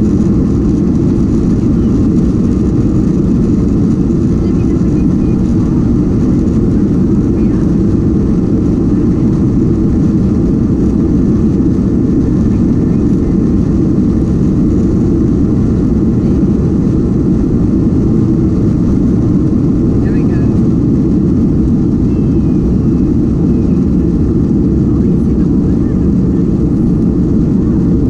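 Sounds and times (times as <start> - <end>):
airliner engines rumbling: 0.0 - 28.0.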